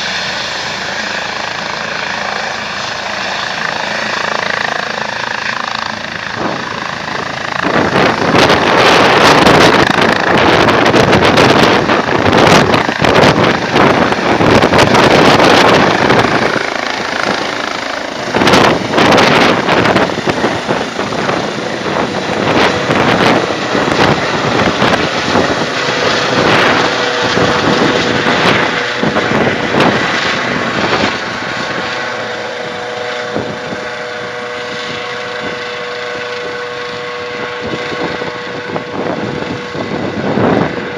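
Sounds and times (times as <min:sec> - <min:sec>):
helicopter rotor noise: 0:00.0 - 0:40.9
steady whine: 0:00.0 - 0:40.9
wind buffeting microphone: 0:00.1 - 0:40.9.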